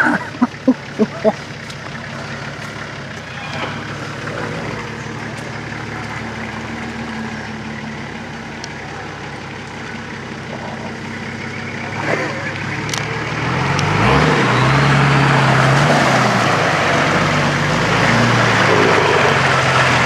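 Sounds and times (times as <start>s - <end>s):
vehicle engine running at low revs: 0.0s - 20.0s.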